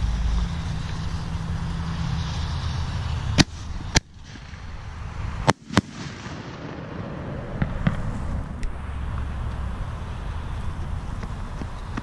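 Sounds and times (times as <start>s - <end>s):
low steady rumble: 0.0s - 12.0s
fireworks bangs: 0.1s - 12.0s.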